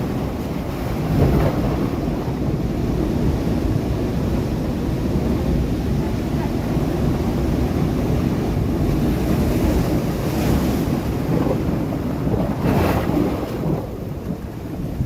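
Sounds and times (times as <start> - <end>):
surf rushing on rocks: 0.0 - 15.0
wave crashing: 0.0 - 15.0
wind on microphone: 0.0 - 15.0.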